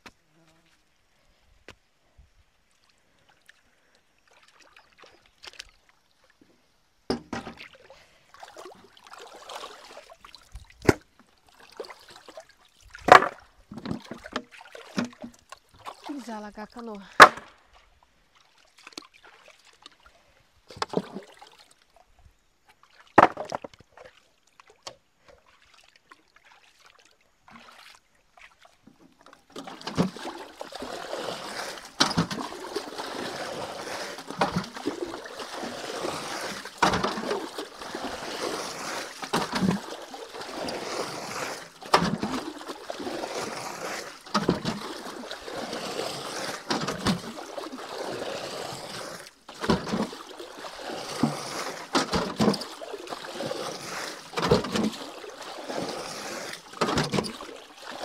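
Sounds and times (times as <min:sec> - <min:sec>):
water sloshing and pouring: 0:02.6 - 0:06.5, 0:07.1 - 0:58.0
bucket water splashing: 0:07.1 - 0:17.8, 0:18.4 - 0:22.0, 0:22.8 - 0:58.0.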